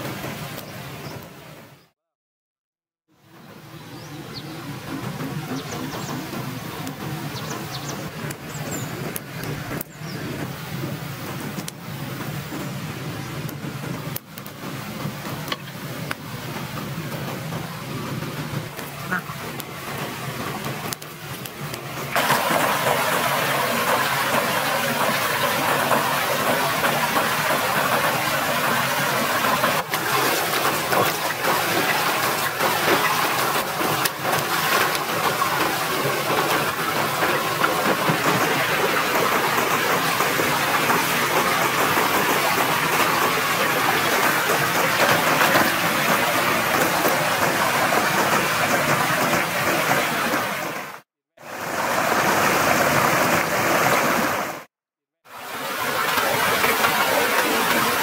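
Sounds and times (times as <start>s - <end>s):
stream and waterfall rushing: 3.2s - 54.7s, 55.3s - 58.0s.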